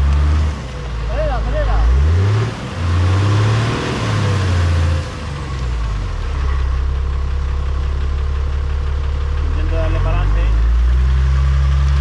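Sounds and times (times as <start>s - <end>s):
engine idling: 0.0s - 3.4s, 4.1s - 12.0s
off-road vehicle engine revving: 0.0s - 12.0s.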